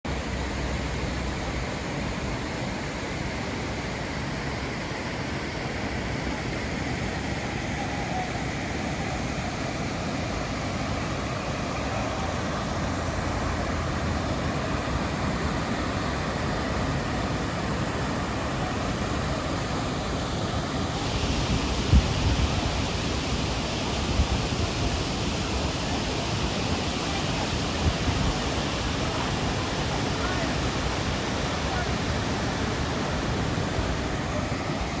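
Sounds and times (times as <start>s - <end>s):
river water rushing over rocks: 0.1s - 35.0s.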